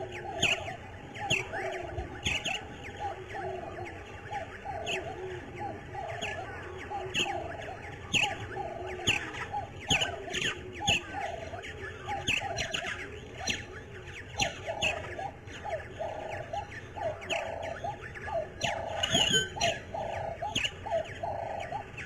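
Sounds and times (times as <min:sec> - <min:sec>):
high downward-sliding bird chirps: 0:00.0 - 0:22.0
lower repeated bird call: 0:00.0 - 0:22.0.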